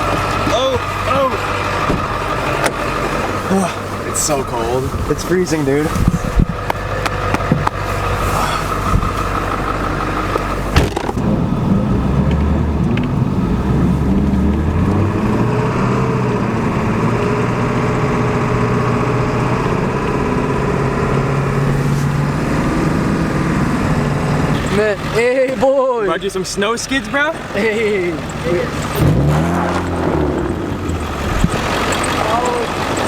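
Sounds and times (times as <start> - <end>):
vehicle engine revving: 0.0 - 25.6, 26.2 - 33.0.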